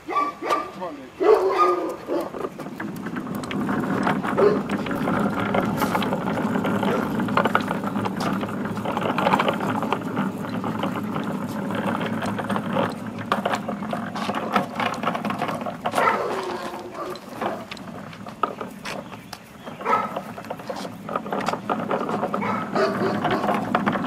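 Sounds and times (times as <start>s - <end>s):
small wheels rolling over asphalt: 0.0s - 24.0s.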